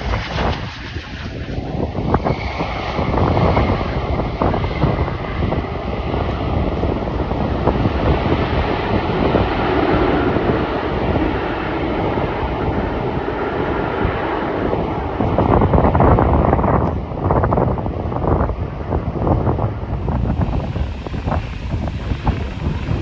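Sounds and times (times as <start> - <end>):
jet engines running: 0.0 - 23.0
wind buffeting microphone: 0.0 - 23.0.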